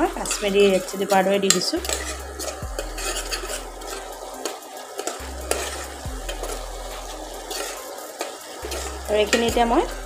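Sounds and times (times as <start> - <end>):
cooktop hum: 0.0 - 10.0
frying sizzle: 0.0 - 10.0
metal spoon scraping a pot: 0.0 - 10.0.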